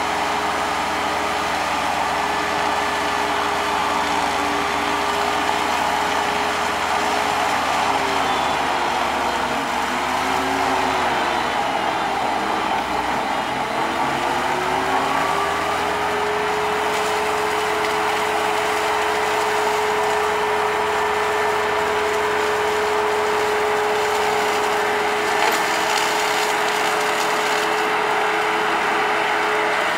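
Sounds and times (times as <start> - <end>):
tracked machine engine running: 0.0 - 29.9.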